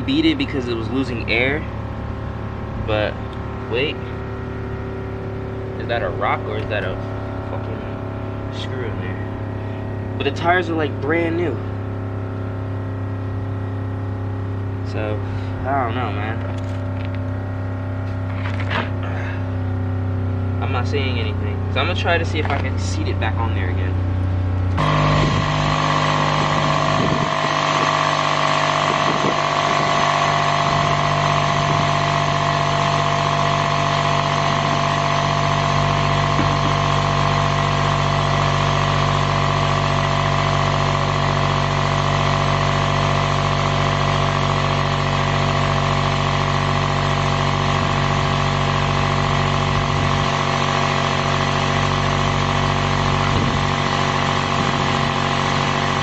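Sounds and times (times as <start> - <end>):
motor droning: 0.0 - 56.0.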